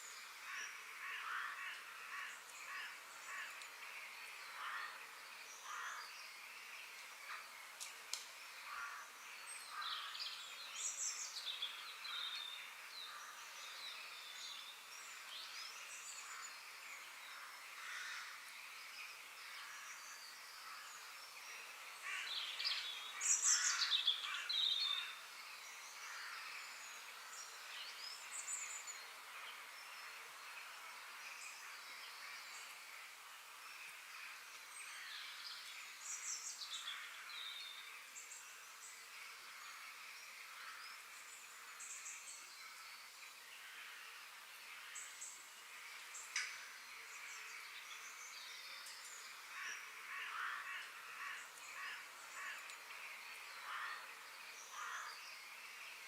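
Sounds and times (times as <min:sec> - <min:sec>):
birds calling and chirping: 0:00.0 - 0:56.0
soft steady hiss: 0:00.0 - 0:56.0.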